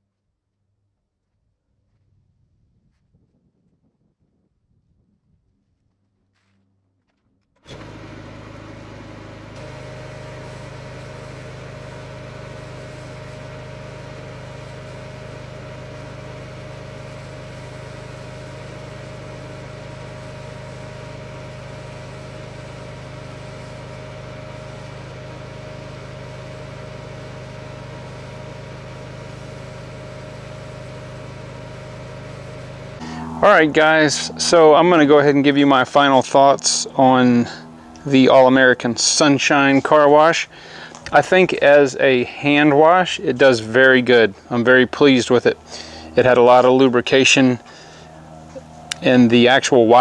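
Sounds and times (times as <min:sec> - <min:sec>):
mechanical hum with high tone: 0:07.6 - 0:50.0.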